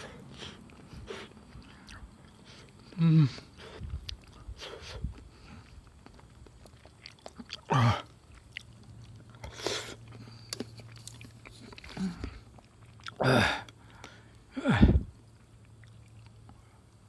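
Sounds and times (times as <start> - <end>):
person chewing and biting: 0.0 - 14.2.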